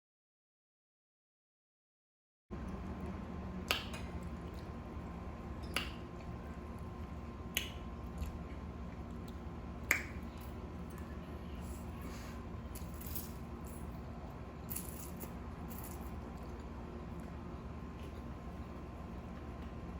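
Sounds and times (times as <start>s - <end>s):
steady low hum: 2.5s - 19.9s.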